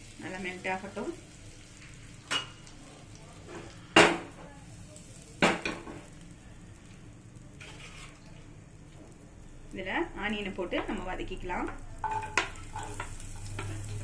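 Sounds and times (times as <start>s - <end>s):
butter sizzling in a pan: 0.0s - 14.0s.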